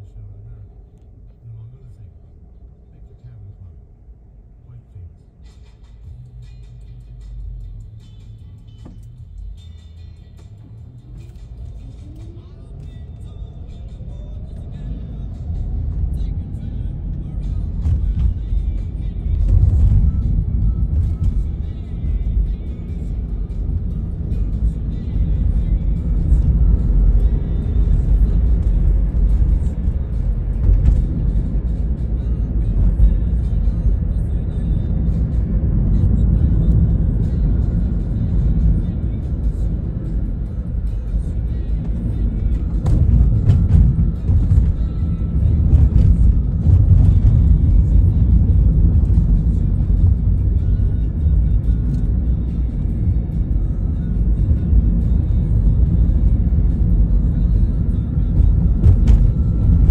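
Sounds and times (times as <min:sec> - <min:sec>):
car road and engine rumble: 0:00.0 - 0:59.9
music playing: 0:05.4 - 0:59.9.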